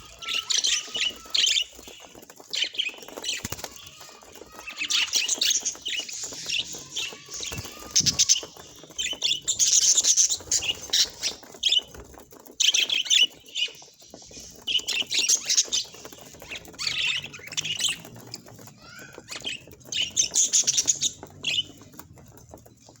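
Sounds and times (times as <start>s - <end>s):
budgerigars chirping and chattering: 0.0s - 23.0s.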